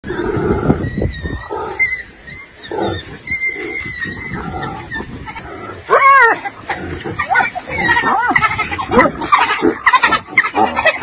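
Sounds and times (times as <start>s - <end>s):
hyena growling and squealing: 0.0s - 11.0s
wild dogs twittering chirps: 0.1s - 5.2s, 6.2s - 11.0s.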